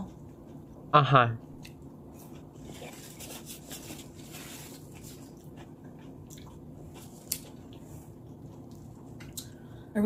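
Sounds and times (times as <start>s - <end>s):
wet chewing: 1.6s - 9.6s.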